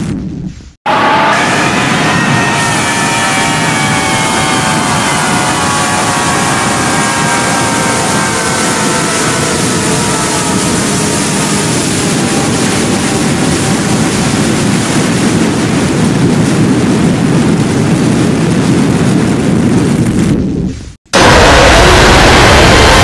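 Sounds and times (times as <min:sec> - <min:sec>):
harsh distorted rumble: 0:00.0 - 0:23.0.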